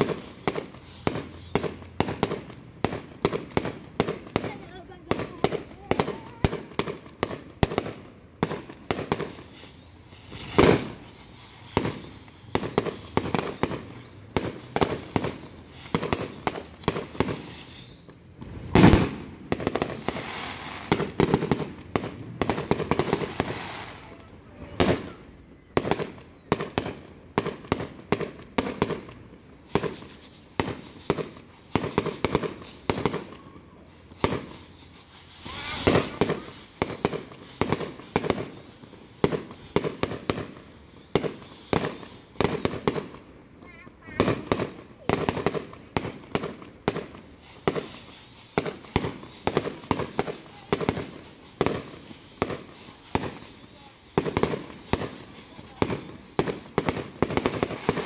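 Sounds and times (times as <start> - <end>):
fireworks bangs: 0.0 - 58.0.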